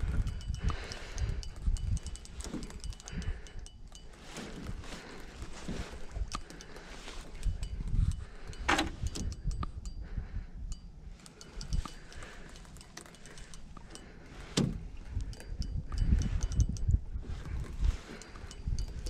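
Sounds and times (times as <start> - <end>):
wind on microphone: 0.0 - 12.3, 14.3 - 19.0
fishing reel clicking: 0.0 - 19.0.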